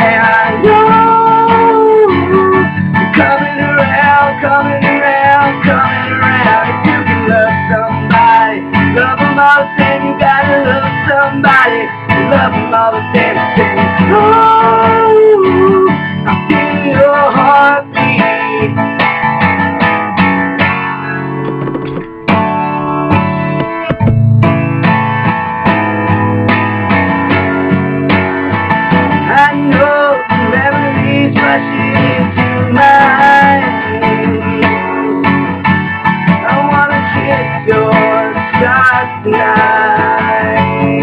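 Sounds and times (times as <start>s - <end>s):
pop-rock band with strummed guitar: 0.0s - 41.0s.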